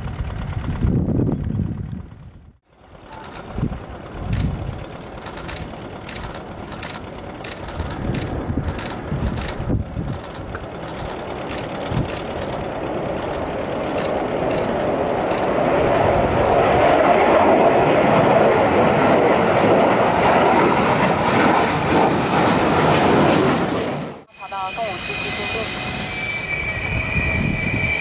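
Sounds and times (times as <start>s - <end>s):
jet fighter noise: 2.8s - 28.0s.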